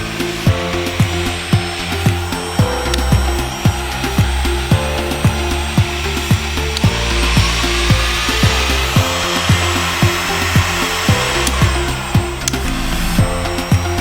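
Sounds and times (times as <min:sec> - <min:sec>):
background music with steady beat: 0:00.0 - 0:14.0
heat gun blowing air: 0:00.0 - 0:14.0.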